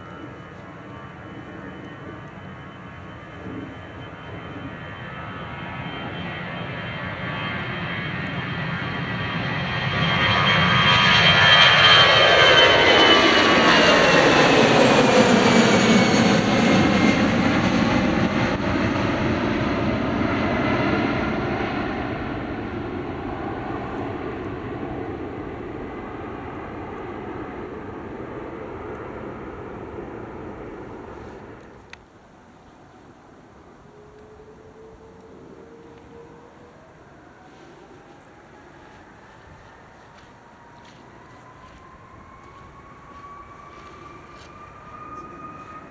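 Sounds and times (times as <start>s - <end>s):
high fan whine: 0.0s - 45.9s
jet engines roaring: 0.0s - 45.9s.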